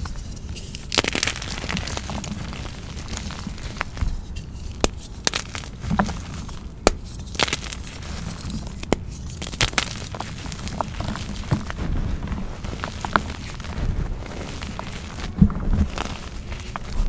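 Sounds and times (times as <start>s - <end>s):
chalk crunching by hand: 0.0s - 17.0s.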